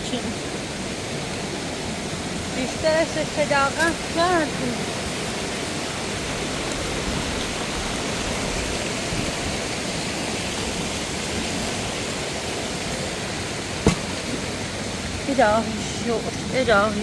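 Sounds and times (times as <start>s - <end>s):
waterfall cascading over rocks: 0.0s - 17.0s.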